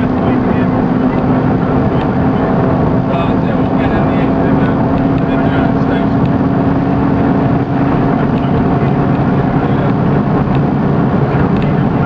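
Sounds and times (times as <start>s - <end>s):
car engine and turbo: 0.0s - 12.0s
road noise inside car: 0.0s - 12.0s.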